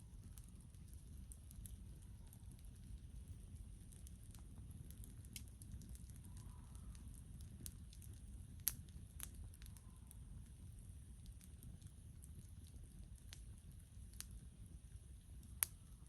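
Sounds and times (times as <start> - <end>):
campfire rumble: 0.0 - 16.0
fire crackles and pops: 0.0 - 16.0.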